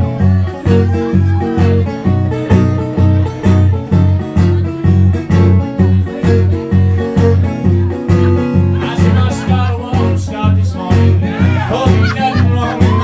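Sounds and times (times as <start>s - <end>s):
acoustic guitar country blues: 0.0s - 13.0s.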